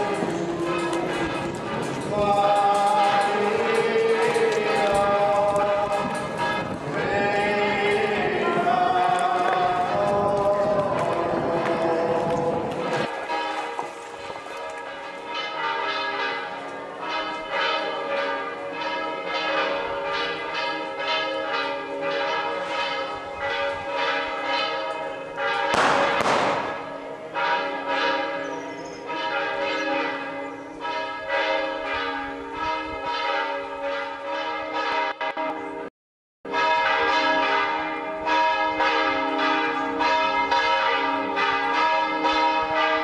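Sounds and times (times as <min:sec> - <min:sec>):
church bells pealing: 0:00.0 - 0:35.9, 0:36.5 - 0:43.0.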